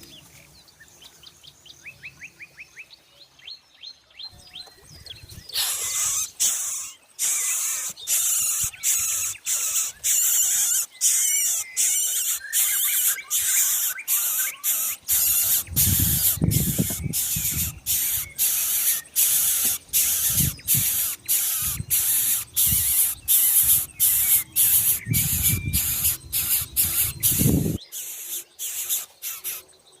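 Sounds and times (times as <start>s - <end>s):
nestlings giving hissing calls: 5.5s - 29.7s.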